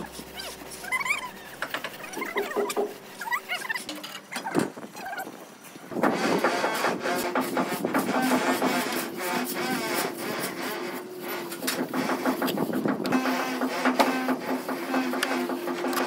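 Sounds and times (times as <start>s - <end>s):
straightedge scraping cement render: 0.0s - 4.2s, 5.9s - 16.0s.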